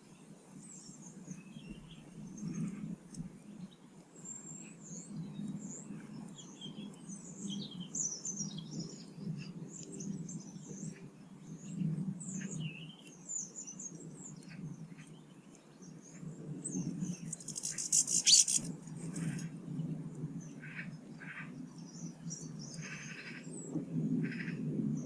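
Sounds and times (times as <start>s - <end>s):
songbirds chirping and twittering: 0.0s - 25.0s.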